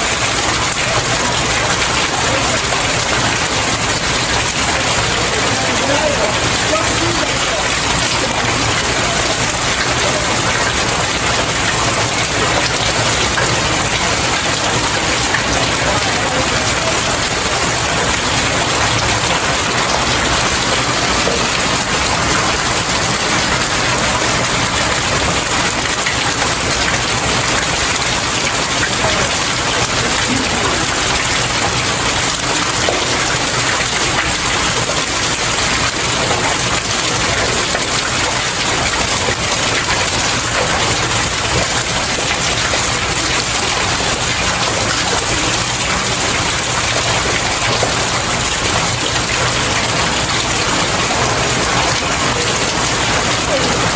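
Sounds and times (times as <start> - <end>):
rain pattering on stairs: 0.0 - 53.9.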